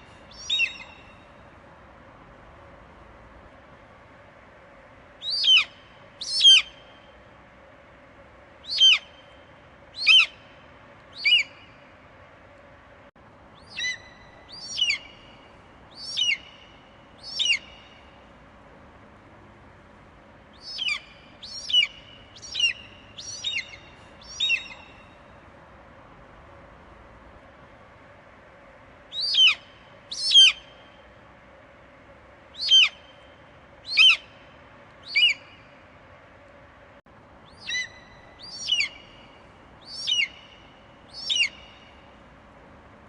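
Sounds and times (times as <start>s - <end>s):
faint background hiss: 0.0s - 43.0s.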